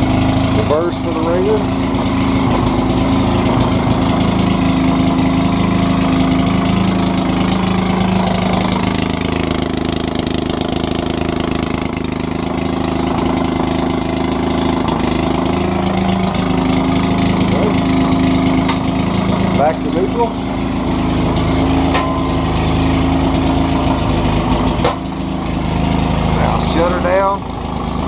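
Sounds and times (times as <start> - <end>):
two-stroke gas engine running: 0.0 - 28.0.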